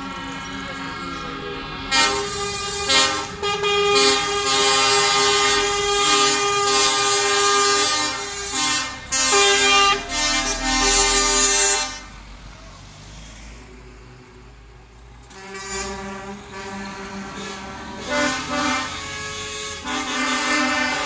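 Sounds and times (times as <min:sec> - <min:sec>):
truck air horns blasting: 0:00.0 - 0:12.2, 0:15.2 - 0:21.0
diesel truck engine rumbling: 0:00.0 - 0:21.0.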